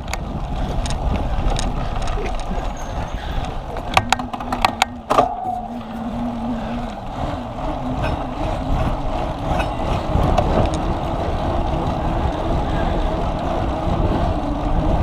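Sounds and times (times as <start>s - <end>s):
low rumble of bicycle riding: 0.0s - 15.0s
wind buffeting microphone: 0.0s - 15.0s.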